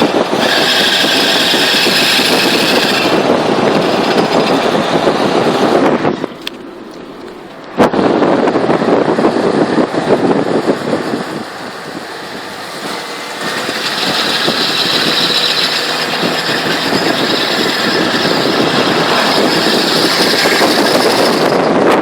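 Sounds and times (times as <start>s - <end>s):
metallic grinding from moving car: 0.0s - 22.0s.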